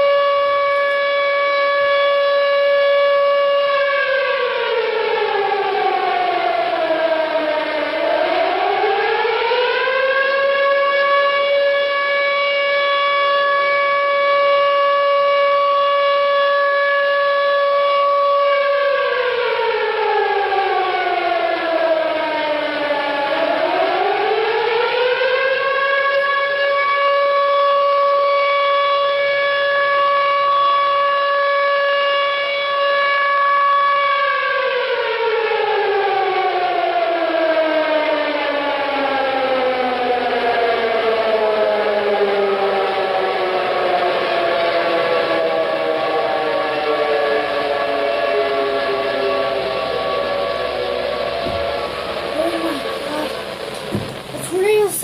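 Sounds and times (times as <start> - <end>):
warning siren wailing: 0.0 - 55.0.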